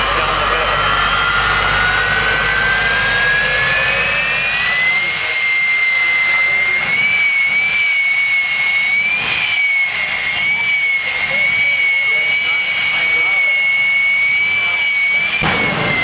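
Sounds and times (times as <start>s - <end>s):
jet engine whine: 0.0s - 16.0s.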